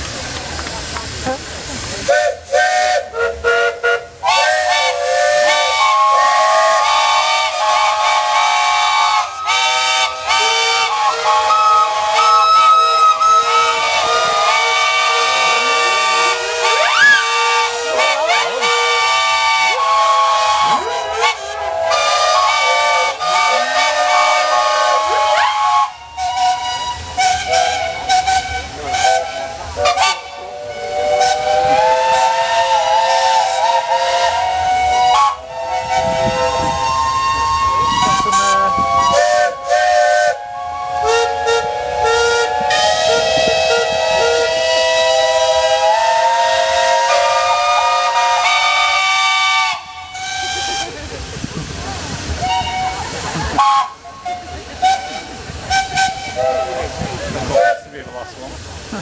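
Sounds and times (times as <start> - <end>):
hiss of steam: 0.0 - 59.0
steam whistles sounding: 2.1 - 51.0, 52.4 - 57.9.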